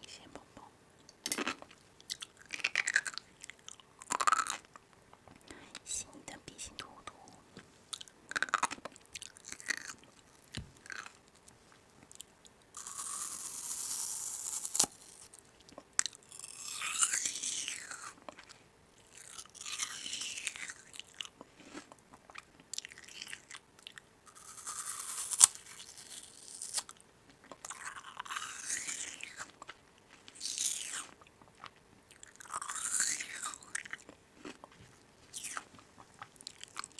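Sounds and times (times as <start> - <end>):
crunching and chewing: 1.4 - 5.2, 7.9 - 36.9.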